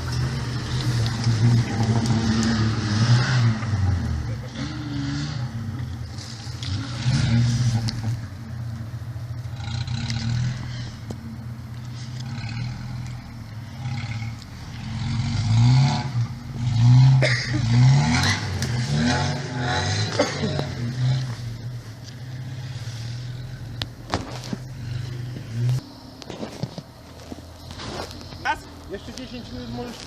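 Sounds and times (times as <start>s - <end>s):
engine revving: 0.0s - 25.9s.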